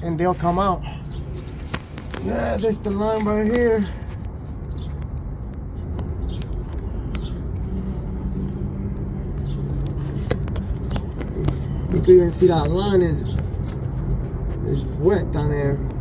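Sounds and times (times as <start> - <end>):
vehicle rumble: 0.0 - 16.0.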